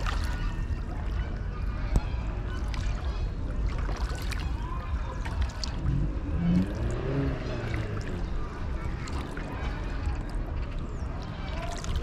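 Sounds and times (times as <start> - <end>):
water splashing and lapping: 0.0 - 12.0.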